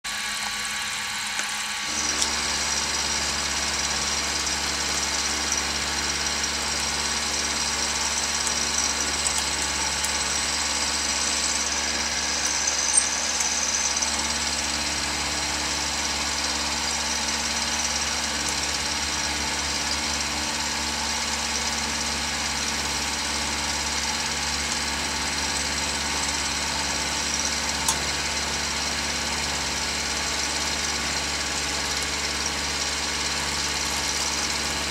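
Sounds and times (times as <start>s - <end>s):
milling machine whining: 0.1s - 34.9s.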